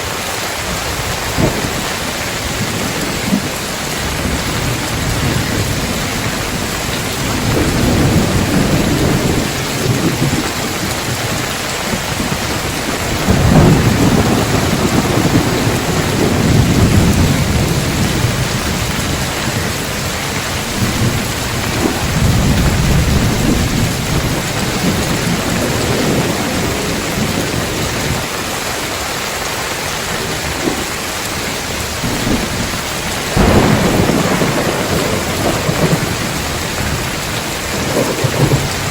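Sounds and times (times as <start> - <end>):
heavy rain on a tiled roof: 0.0 - 38.9
rolling thunder: 0.7 - 28.8, 29.7 - 38.9
sharp thunderclap: 0.9 - 28.3, 31.6 - 38.9.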